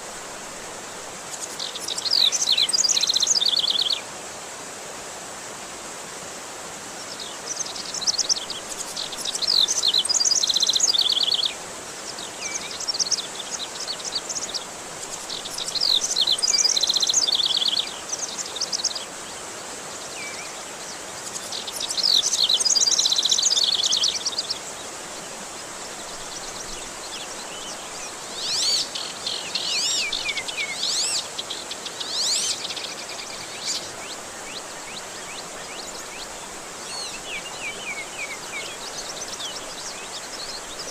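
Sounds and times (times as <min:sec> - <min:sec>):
running water hiss: 0:00.0 - 0:40.9.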